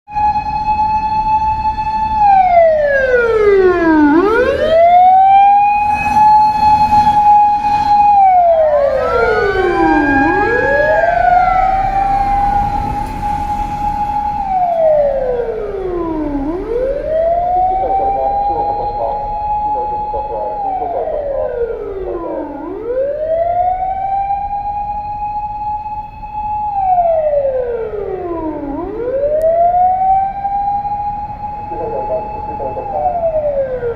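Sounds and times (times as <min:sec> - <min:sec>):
motor siren wailing: 0:00.1 - 0:33.9.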